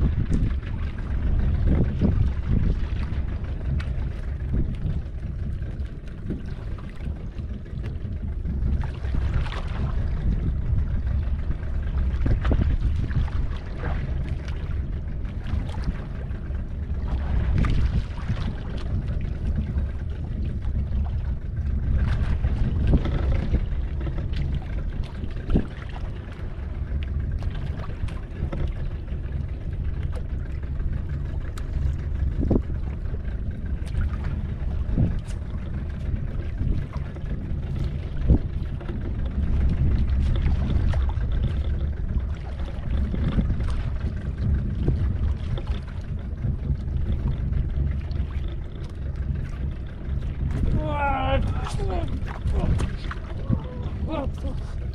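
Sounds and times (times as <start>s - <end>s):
boat engine humming: 0.0s - 54.9s.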